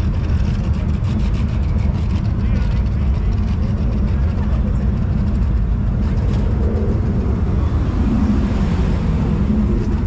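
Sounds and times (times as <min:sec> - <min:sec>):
car engine low rumble: 0:00.0 - 0:10.0.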